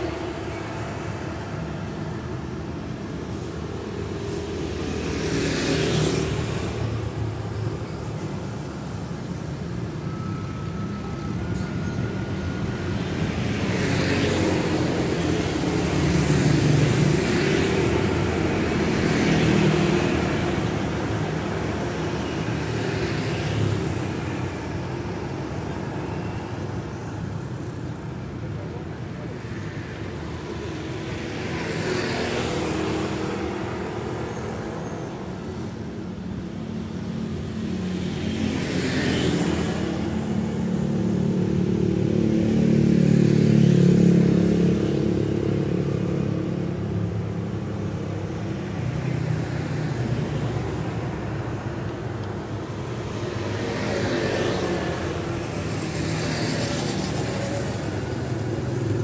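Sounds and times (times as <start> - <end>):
cars and motorcycles passing: 0.0 - 59.0
traffic hum: 0.0 - 59.0.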